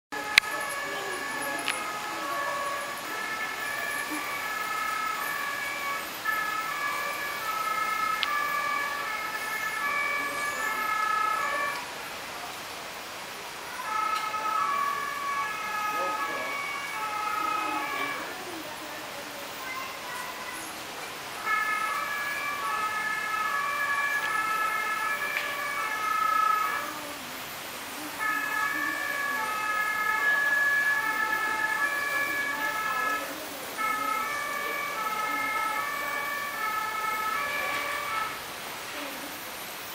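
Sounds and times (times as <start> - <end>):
two-tone fire engine sirens: 0.1 - 39.2.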